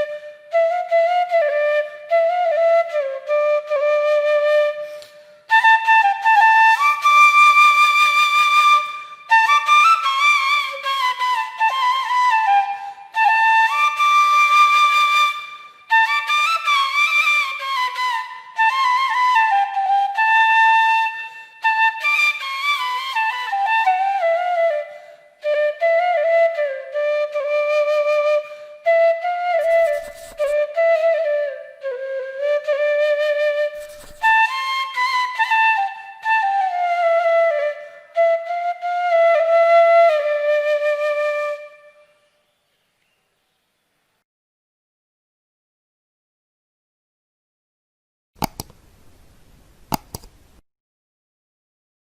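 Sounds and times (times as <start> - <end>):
wind instrument melody: 0.0 - 42.1.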